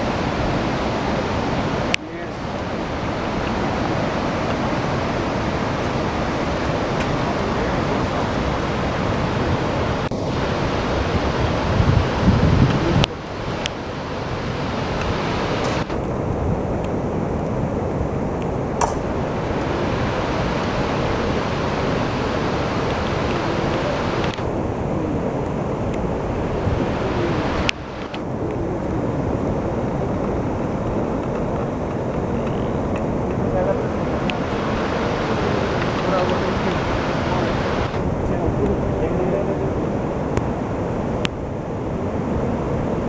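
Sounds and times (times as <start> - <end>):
waterfall rushing: 0.0 - 43.0
wind buffeting microphone: 0.0 - 43.0.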